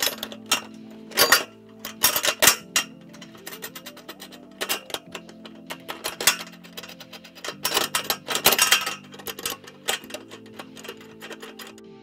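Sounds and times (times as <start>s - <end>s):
metallic clicking and clinking: 0.0s - 12.0s
quiet background music: 0.0s - 12.0s.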